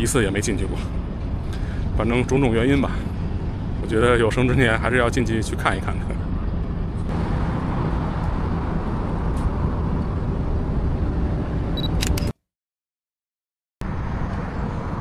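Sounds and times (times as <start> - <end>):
road traffic rumble: 0.0 - 12.3, 13.8 - 15.0.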